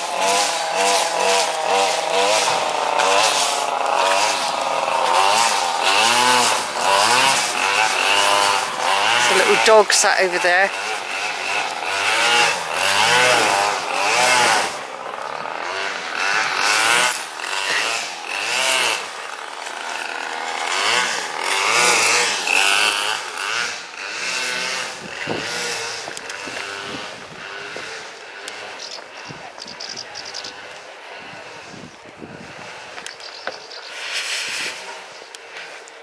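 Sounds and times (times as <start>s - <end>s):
small motor revving: 0.0s - 36.0s.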